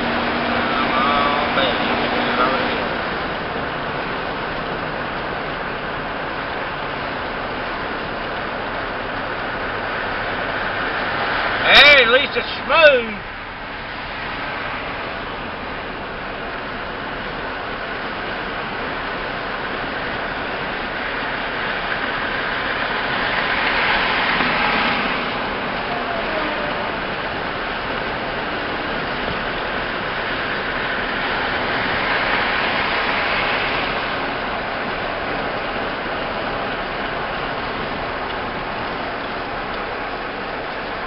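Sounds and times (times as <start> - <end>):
truck engine running low: 0.0 - 41.0
tyre and wind road noise: 0.0 - 41.0.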